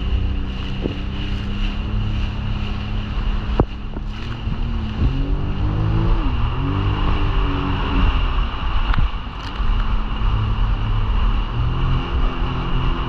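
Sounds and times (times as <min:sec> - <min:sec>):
jet ski engine revving: 0:00.0 - 0:13.0
wind buffeting microphone: 0:00.0 - 0:13.0.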